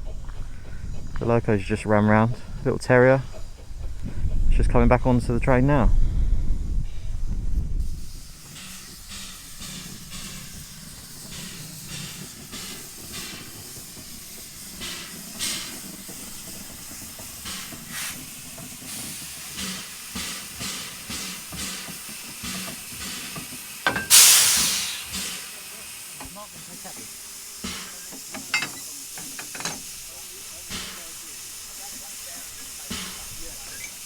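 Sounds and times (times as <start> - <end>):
steam locomotive chuffing: 0.0 - 34.0
steam locomotive hissing: 0.0 - 34.0.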